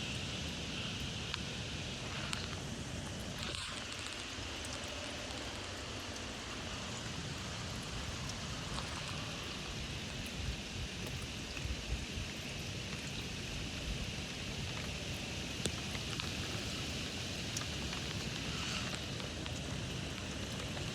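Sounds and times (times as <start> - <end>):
heavy rain hissing: 0.0 - 20.9.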